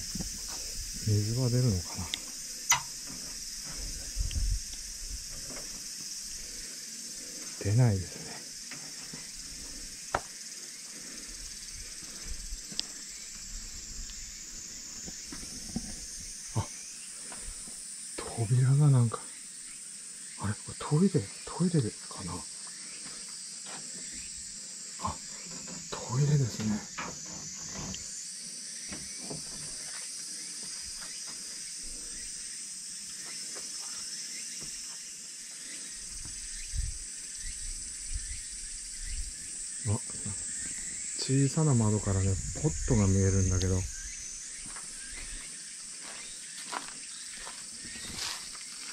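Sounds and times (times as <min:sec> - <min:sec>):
insect chorus: 0:00.0 - 0:48.9.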